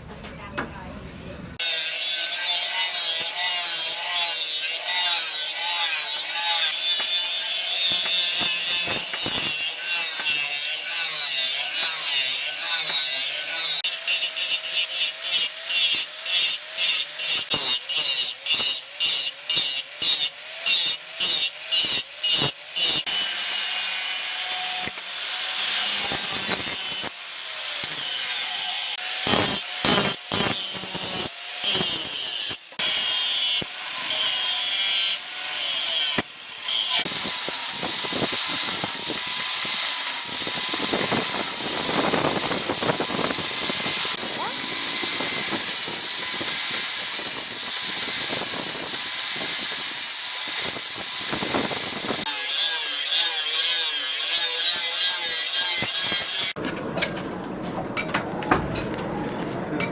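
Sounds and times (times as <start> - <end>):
saw cutting wood: 1.6 - 56.6.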